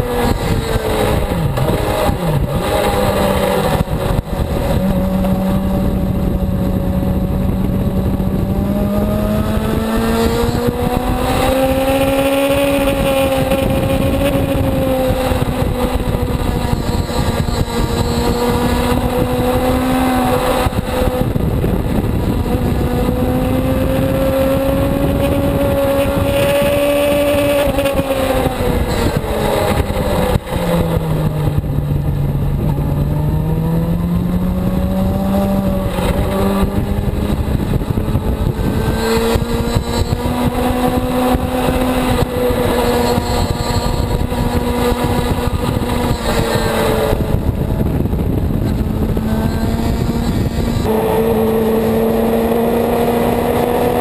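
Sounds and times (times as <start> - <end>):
motorcycle engine revving high: 0.0 - 54.0
wind rushing over camera: 0.0 - 54.0.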